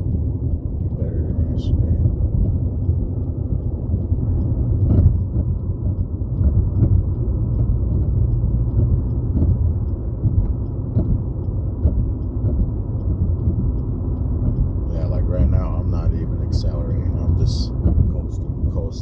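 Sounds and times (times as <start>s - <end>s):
tyre and wind rumble in car: 0.0s - 19.0s.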